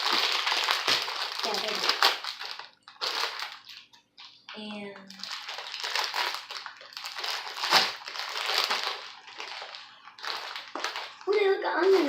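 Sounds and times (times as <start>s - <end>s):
plastic chip bag crinkling: 0.0s - 12.0s.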